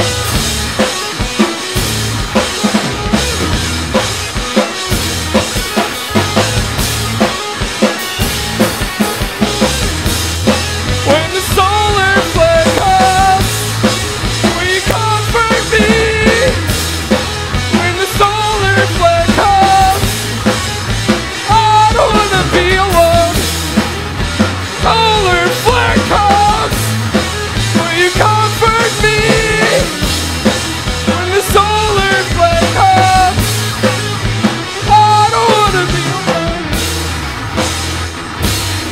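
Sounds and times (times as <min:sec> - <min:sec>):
funk rock band playing: 0:00.0 - 0:38.9
sliding lead guitar melody: 0:00.0 - 0:38.9.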